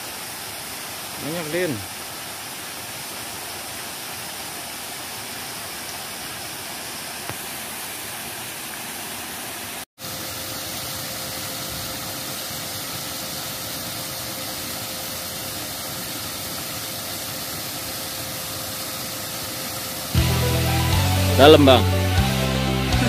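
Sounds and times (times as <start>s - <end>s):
flowing river water: 0.0s - 21.8s.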